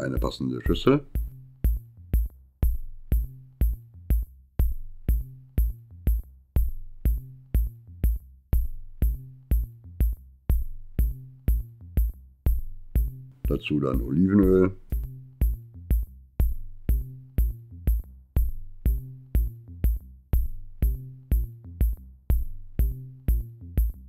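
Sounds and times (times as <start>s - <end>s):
bass line: 0.0s - 24.0s
drum machine beat: 0.0s - 24.0s
electronic music: 0.0s - 24.0s.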